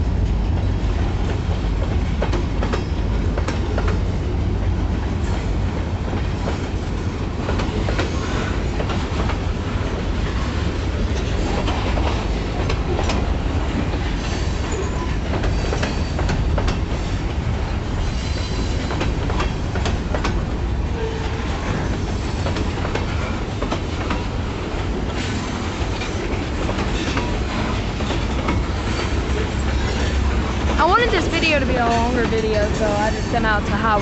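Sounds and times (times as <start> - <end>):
freight train rumbling past: 0.0 - 34.0
wheels clicking over rail joints: 0.1 - 5.5, 6.1 - 34.0.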